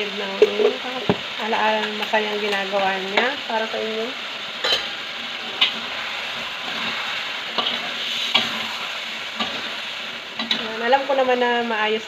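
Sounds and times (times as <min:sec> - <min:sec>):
sweet potato sizzling in wok: 0:00.0 - 0:12.0.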